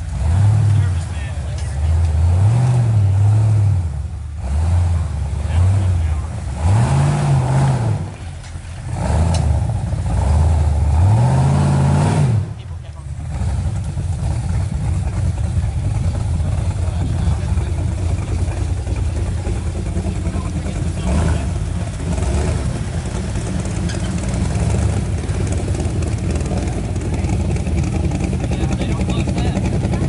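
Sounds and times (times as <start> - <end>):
engine running at low revs: 0.0 - 30.0.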